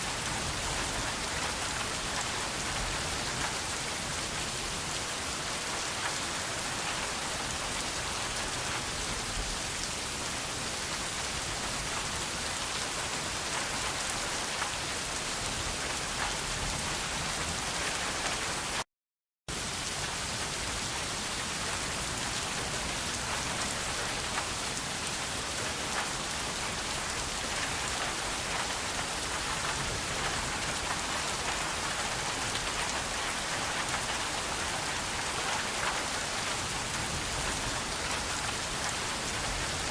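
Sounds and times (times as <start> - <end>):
steady rain falling: 0.0 - 18.8, 19.5 - 39.9.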